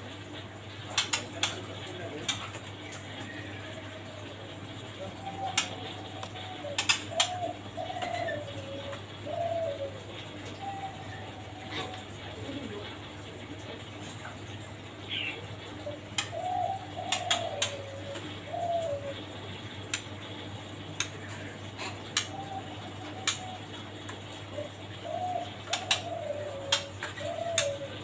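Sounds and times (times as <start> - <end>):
bird cooing low falling calls: 0.6 - 28.0.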